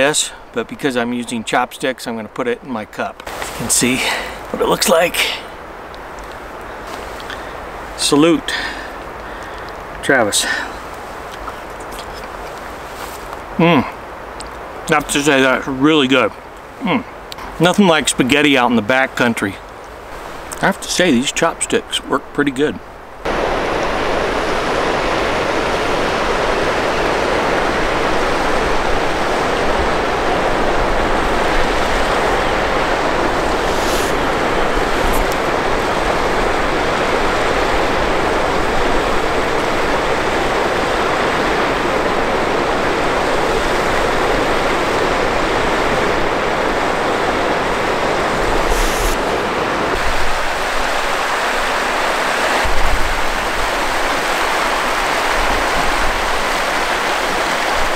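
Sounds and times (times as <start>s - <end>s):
creek rushing over rocks: 0.0s - 57.9s.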